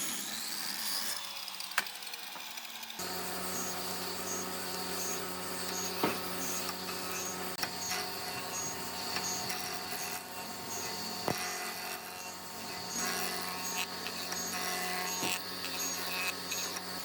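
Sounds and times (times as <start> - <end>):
power tool motor hum: 0.0 - 17.0.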